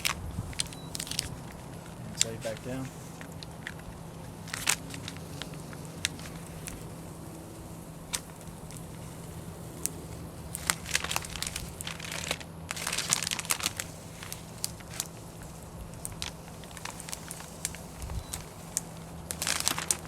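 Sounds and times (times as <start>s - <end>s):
transfer tape crinkling: 0.0s - 20.0s.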